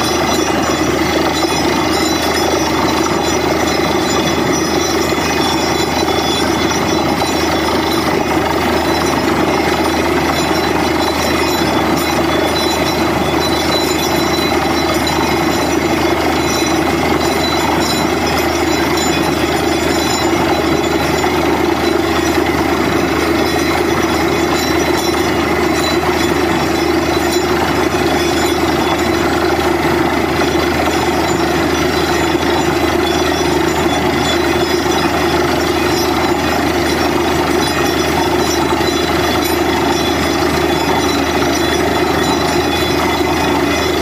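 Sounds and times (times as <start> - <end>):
drilling rig clattering: 0.0 - 44.0.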